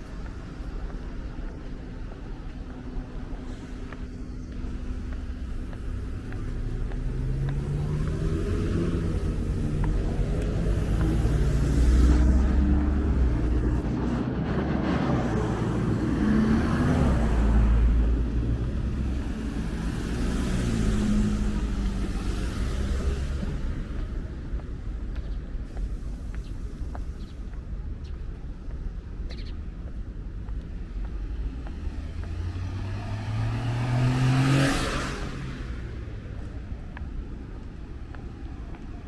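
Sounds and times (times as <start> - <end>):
road rumble: 0.0 - 39.0
vehicle engines droning: 0.0 - 39.0.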